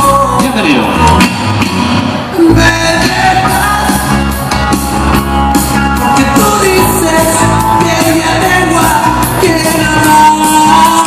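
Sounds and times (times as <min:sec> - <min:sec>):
loud dance music with singing: 0:00.0 - 0:11.0.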